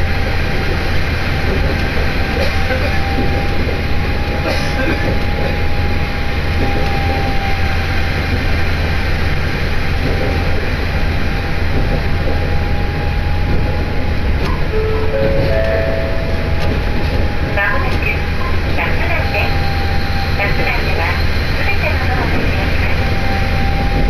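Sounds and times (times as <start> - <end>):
train engine and wheels rumbling: 0.0 - 24.0.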